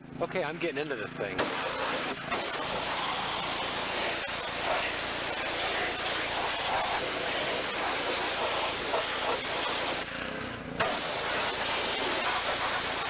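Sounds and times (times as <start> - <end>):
power washer spraying water: 0.6 - 13.0.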